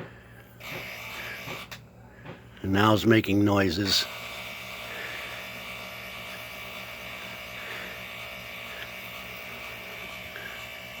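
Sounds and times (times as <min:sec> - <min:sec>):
appliance motor humming and grinding: 0:00.0 - 0:11.0.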